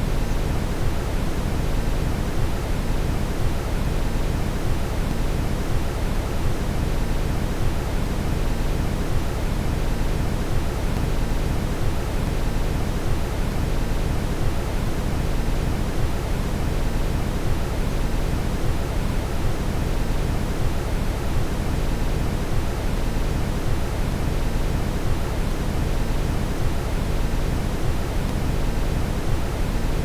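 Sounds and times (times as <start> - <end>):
brown noise hiss: 0.0 - 30.0.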